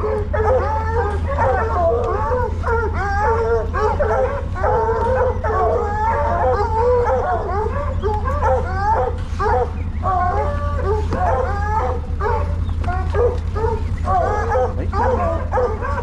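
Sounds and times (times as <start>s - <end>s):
dogs baying: 0.0s - 16.0s
steady low hum: 0.0s - 16.0s.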